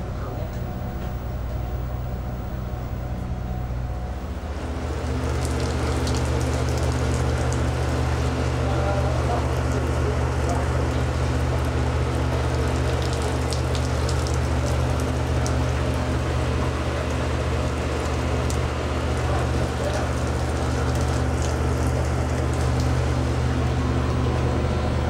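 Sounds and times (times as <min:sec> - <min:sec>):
boat engine droning: 0:00.0 - 0:25.0
rain on steel deck: 0:00.0 - 0:25.0.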